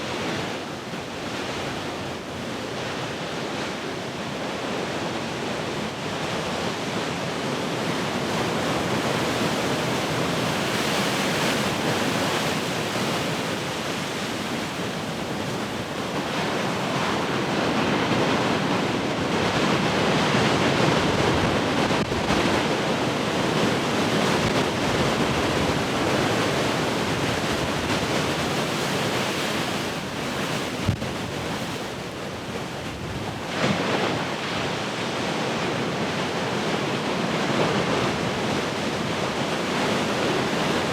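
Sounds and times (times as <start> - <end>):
wind on microphone: 6.2 - 40.9
ocean surf breaking: 7.0 - 40.9.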